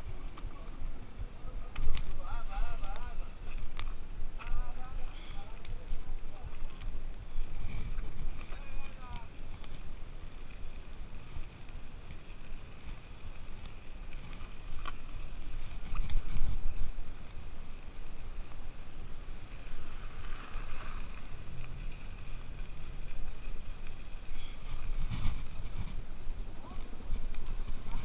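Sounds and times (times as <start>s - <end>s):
bike tyres rolling on dirt road: 0.0s - 28.0s
wind buffeting microphone: 0.0s - 28.0s.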